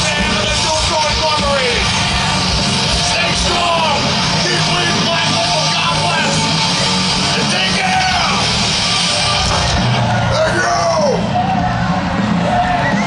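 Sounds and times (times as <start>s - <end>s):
bass: 0.0s - 13.0s
distorted electric guitar: 0.0s - 13.0s
drums: 0.0s - 13.0s.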